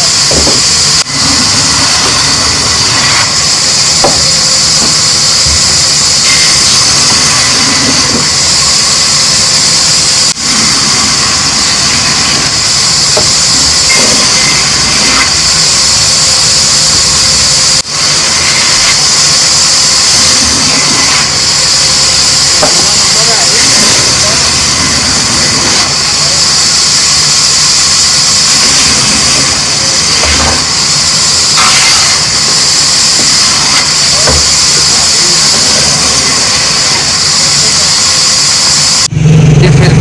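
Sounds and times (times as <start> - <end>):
high hissing noise: 0.0 - 39.9
machine running loudly: 0.0 - 40.0.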